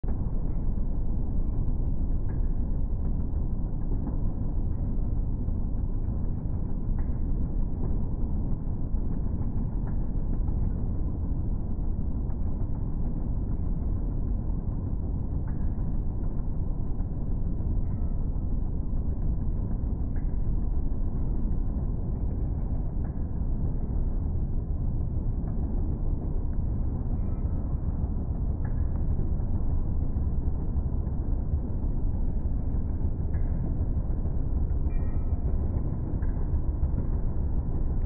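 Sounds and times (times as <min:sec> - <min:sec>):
treadmill belt and motor rumble: 0:00.0 - 0:38.0.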